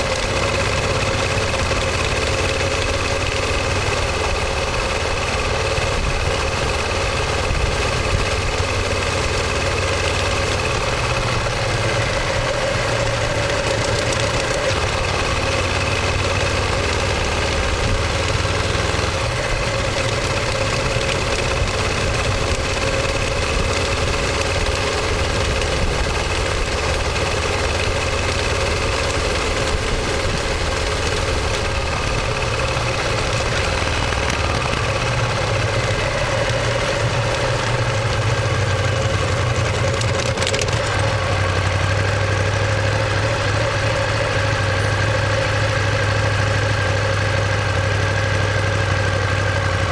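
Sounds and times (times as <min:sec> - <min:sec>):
motorcycle engine running steadily: 0:00.0 - 0:49.9.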